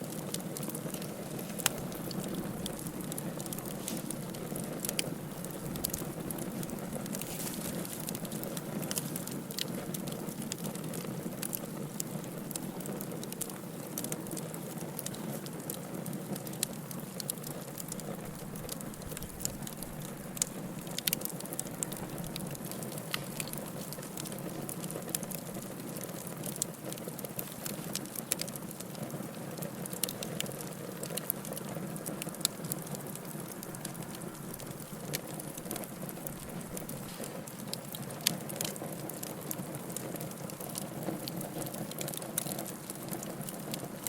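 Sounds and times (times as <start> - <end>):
fire crackles and pops: 0.0 - 44.0
wood fire hiss and rumble: 0.0 - 44.0.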